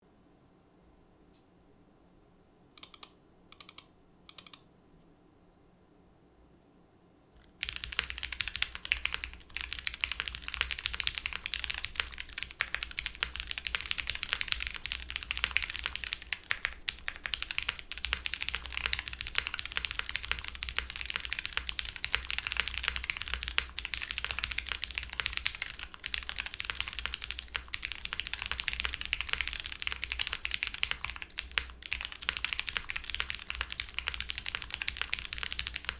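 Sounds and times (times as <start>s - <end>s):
mechanical keyboard typing: 2.8s - 4.6s, 7.4s - 35.9s.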